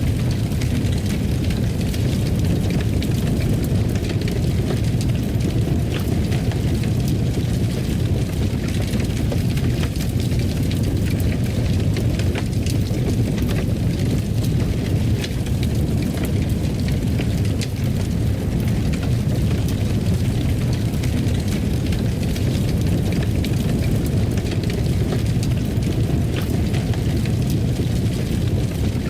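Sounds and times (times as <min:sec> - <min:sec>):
fire crackling and popping: 0:00.0 - 0:29.0
fire roaring in fireplace: 0:00.0 - 0:29.0.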